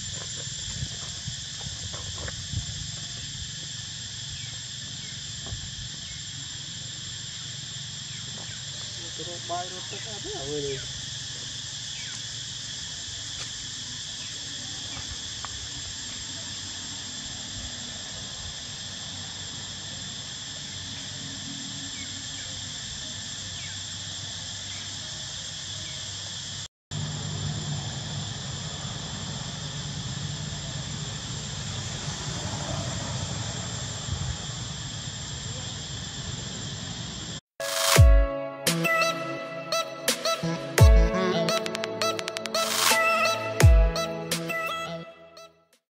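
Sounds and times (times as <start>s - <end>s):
insect chorus drone: 0.0s - 45.5s.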